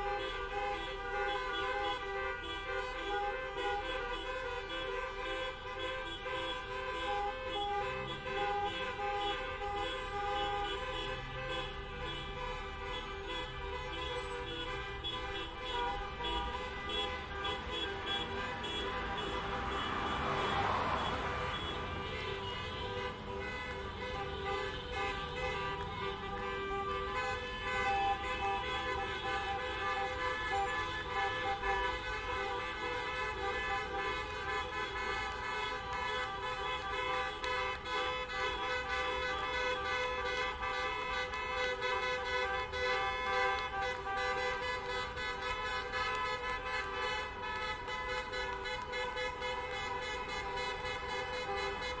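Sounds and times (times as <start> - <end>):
low rumble of traffic: 0.0 - 52.0
many car horns honking: 0.0 - 52.0.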